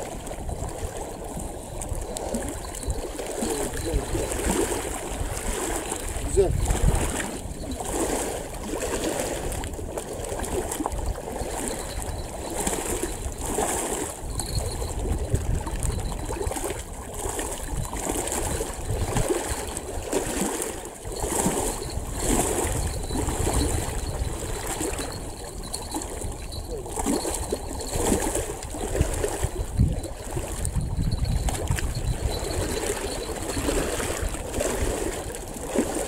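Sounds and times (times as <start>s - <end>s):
waves lapping against rocks: 0.0s - 36.0s
wind rumbling on microphone: 0.0s - 36.0s.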